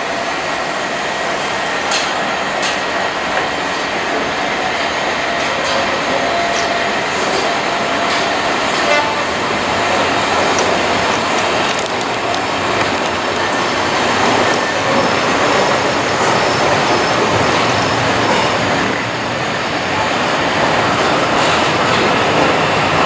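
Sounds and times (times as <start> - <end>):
train passing close by: 0.0 - 23.0.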